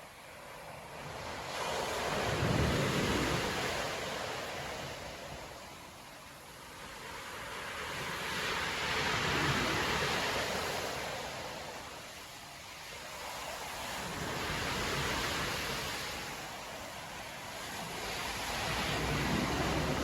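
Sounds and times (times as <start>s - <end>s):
storm surf breaking on beach: 0.0s - 20.0s.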